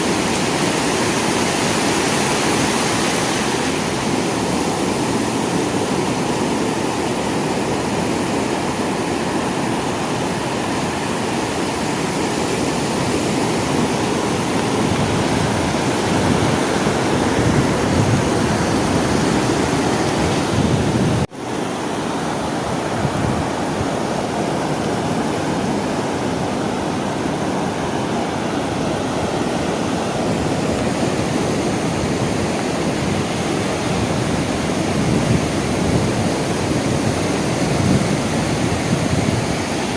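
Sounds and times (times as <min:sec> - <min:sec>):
sea waves on shore: 0:00.0 - 0:39.9.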